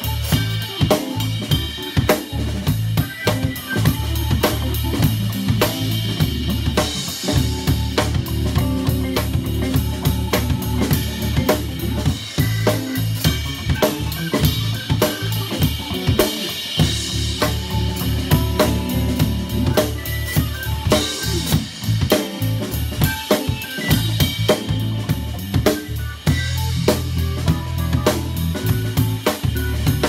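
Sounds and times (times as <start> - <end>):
drum kit snare and kick: 0.0 - 30.0
funk band playing live: 0.0 - 30.0.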